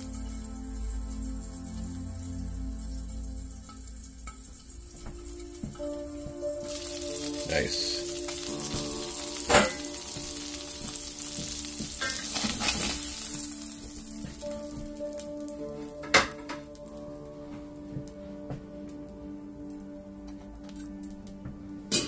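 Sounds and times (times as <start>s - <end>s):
food sizzling in a skillet: 0.0s - 18.1s.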